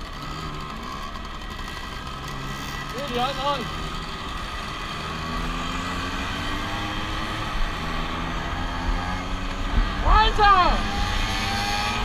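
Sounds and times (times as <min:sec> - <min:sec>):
scooter engines running: 0:00.0 - 0:12.0.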